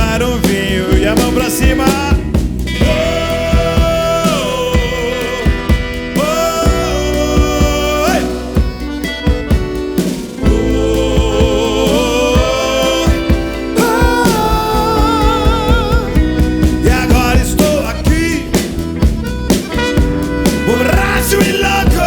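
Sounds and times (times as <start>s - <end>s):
lead melody with vibrato: 0.0s - 22.0s
rock band playing live: 0.0s - 22.0s.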